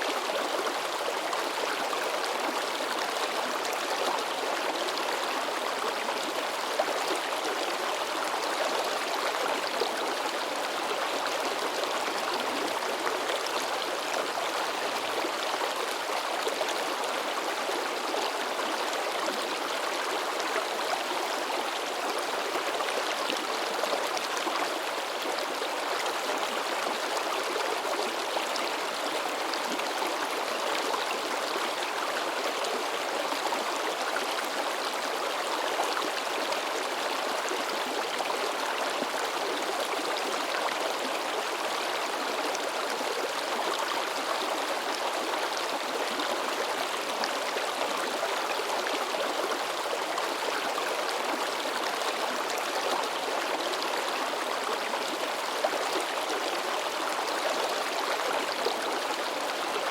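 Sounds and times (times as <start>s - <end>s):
mountain stream babbling: 0.0s - 59.9s.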